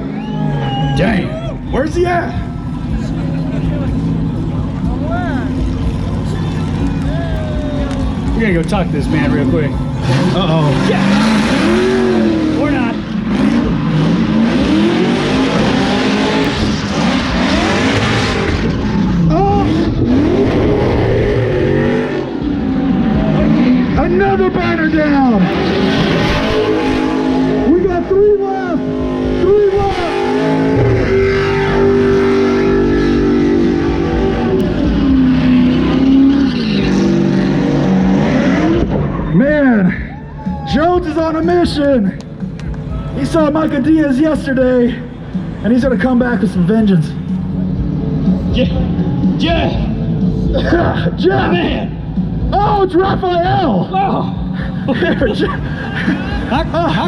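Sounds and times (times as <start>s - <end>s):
car engine revving: 0.0s - 40.0s, 40.7s - 57.0s.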